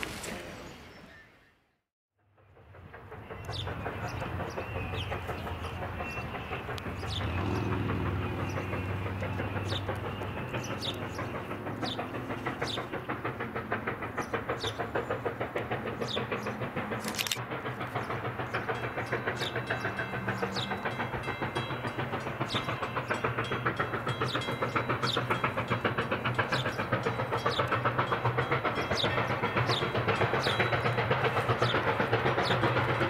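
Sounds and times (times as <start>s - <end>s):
steam locomotive chuffing: 2.2s - 33.0s.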